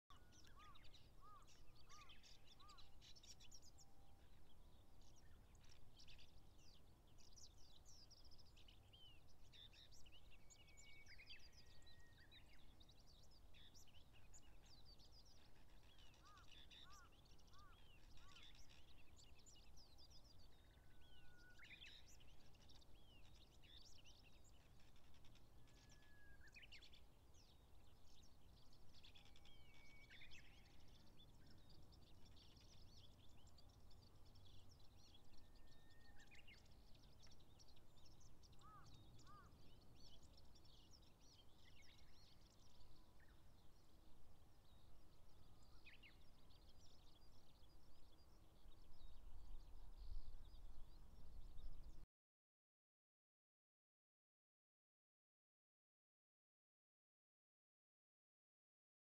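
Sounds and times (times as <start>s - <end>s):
faint birdsong: 0.0s - 52.1s.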